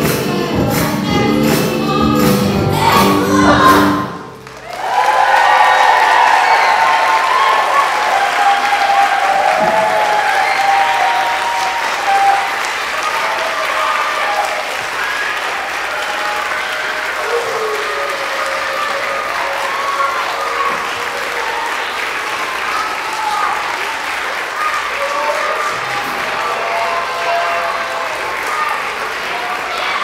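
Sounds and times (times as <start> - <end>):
audience clapping: 0.0 - 30.0.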